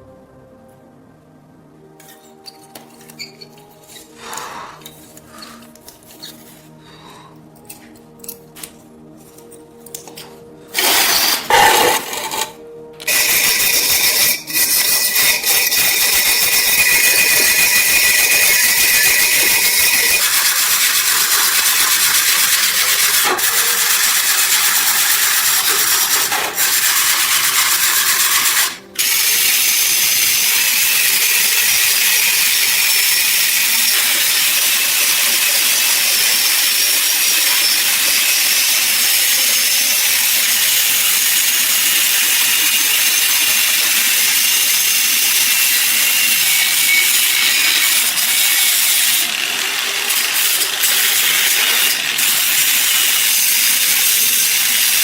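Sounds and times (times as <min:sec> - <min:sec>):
power tool whining on metal: 0:10.4 - 0:55.0.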